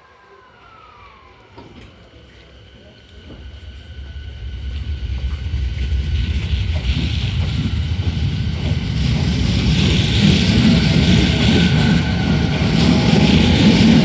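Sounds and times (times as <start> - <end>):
train hiss: 0.0 - 14.0
train wheels rumbling on rails: 1.3 - 14.0.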